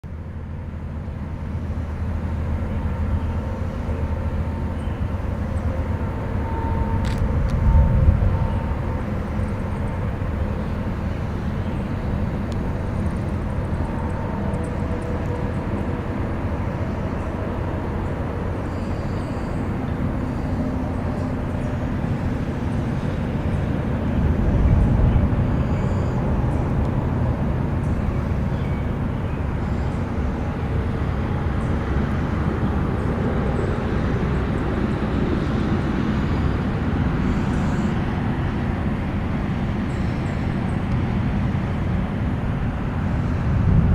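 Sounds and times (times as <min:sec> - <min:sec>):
highway traffic rumble: 0:00.1 - 0:43.9.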